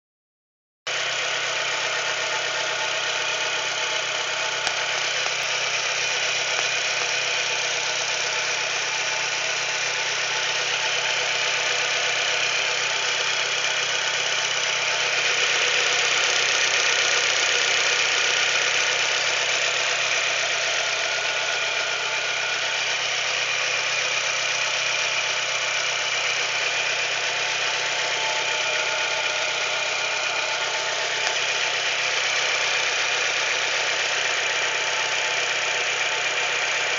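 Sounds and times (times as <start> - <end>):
car engine running with abnormal noise: 0.9 - 36.9.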